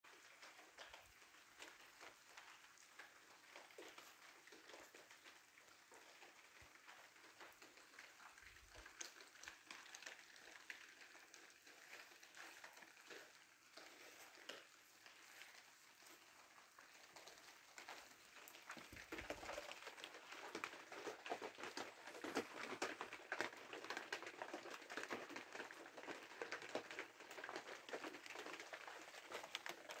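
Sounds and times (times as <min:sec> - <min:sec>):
rain falling: 0:00.1 - 0:30.0.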